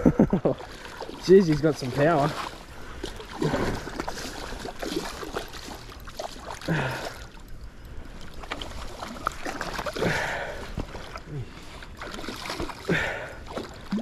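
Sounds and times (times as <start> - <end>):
landing net sloshing water: 0.0 - 14.0
fish thrashing and splashing: 0.5 - 7.5, 8.2 - 14.0.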